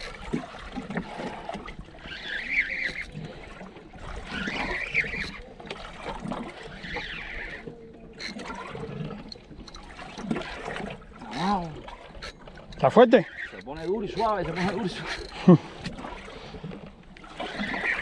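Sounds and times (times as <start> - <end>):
boat and water noise: 0.0 - 18.0
fishing reel whirring: 0.0 - 18.0.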